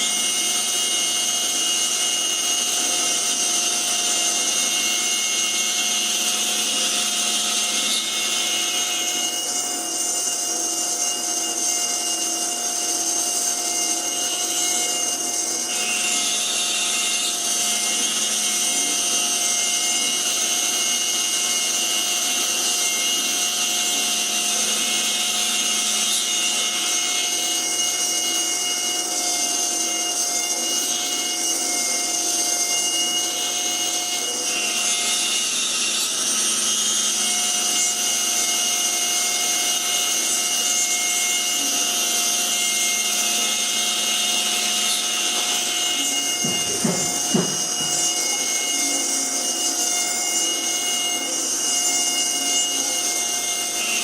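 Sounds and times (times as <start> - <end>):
router spindle cutting wood: 0.0 - 54.0.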